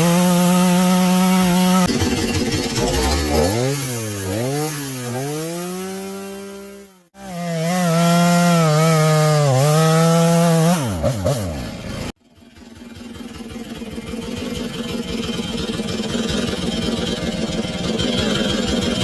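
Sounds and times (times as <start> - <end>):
chainsaw engine revving: 0.0 - 12.2, 12.8 - 19.0.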